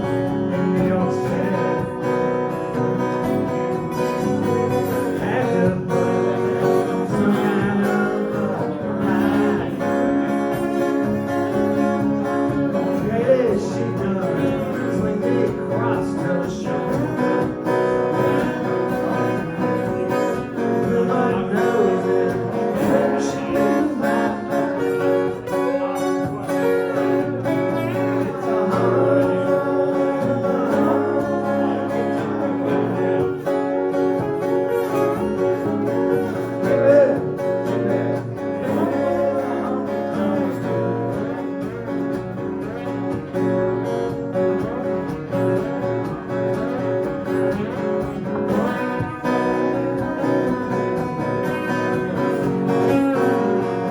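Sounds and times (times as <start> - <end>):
country music with acoustic guitar: 0.0 - 53.9.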